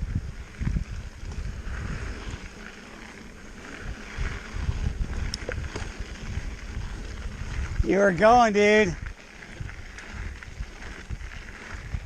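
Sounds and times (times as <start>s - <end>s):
mountain bike rumble and rattle: 0.0s - 12.0s
wind rushing over microphone: 0.0s - 12.0s.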